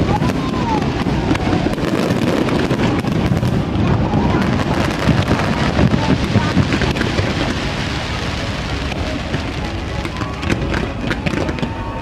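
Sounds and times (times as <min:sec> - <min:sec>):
fireworks crackling: 0:00.0 - 0:12.0
low fireworks booms: 0:00.0 - 0:12.0.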